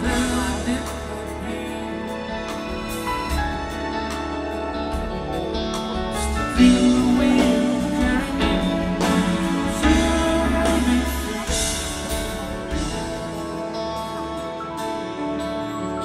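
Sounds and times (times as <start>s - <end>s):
guitar: 0.0s - 16.0s
rock band with orchestra: 0.0s - 16.0s.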